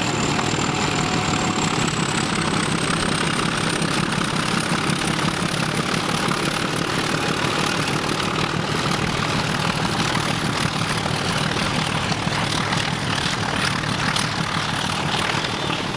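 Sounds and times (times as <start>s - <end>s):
diesel locomotive engines running: 0.0s - 15.9s.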